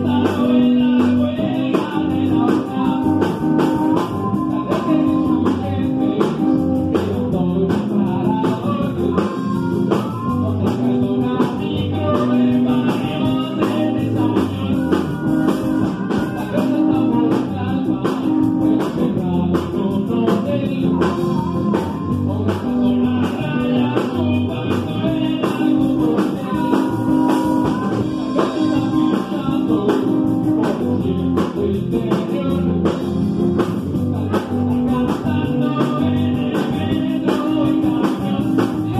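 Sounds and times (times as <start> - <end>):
live rock band playing: 0.0 - 38.9
person singing: 0.0 - 38.9.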